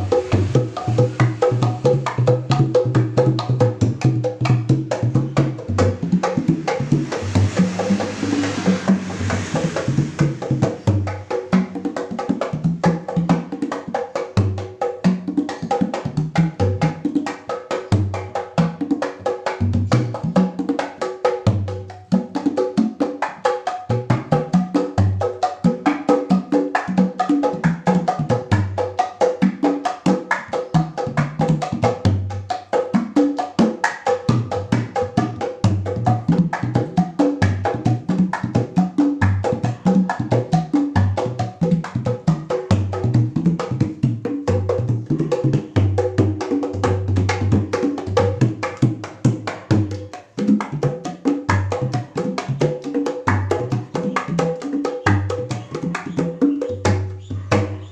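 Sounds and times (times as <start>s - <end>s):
hand drums playing fast rhythm: 0.0s - 57.9s.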